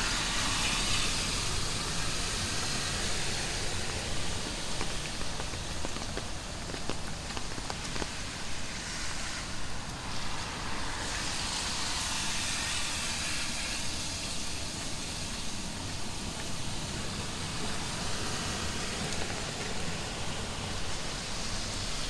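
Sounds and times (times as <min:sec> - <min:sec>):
heavy rain falling: 0:00.0 - 0:22.0
tyres hissing on wet road: 0:00.0 - 0:22.0.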